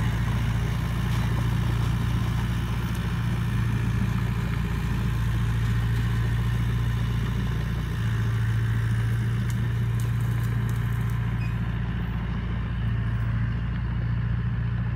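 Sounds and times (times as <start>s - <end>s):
bulldozer diesel engine drone: 0.0s - 14.9s.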